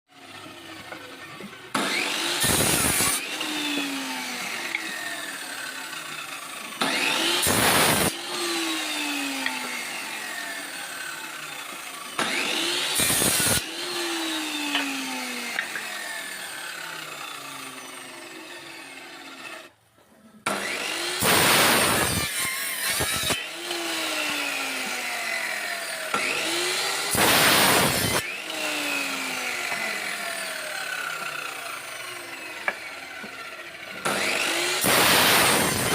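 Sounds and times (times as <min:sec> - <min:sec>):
saw motor whine: 0:00.1 - 0:19.8, 0:20.5 - 0:35.9
power saw cutting wood: 0:00.1 - 0:35.9.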